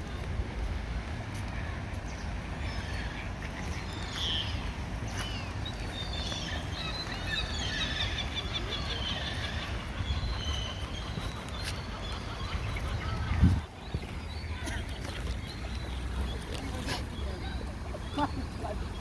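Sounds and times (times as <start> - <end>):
flock of birds calling: 2.1 - 19.0.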